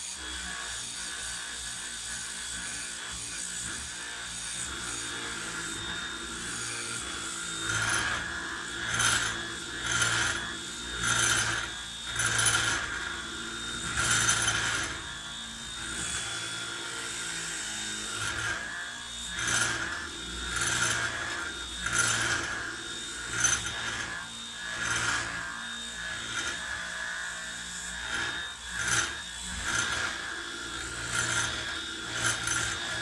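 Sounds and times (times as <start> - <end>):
sander motor whine: 0.0 - 33.0
rasping sanding on wood: 5.4 - 18.7, 19.3 - 33.0.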